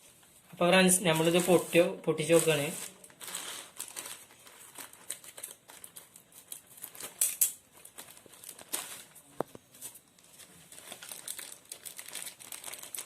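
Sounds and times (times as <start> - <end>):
plastic wrapping crinkling and tearing: 0.7 - 13.0.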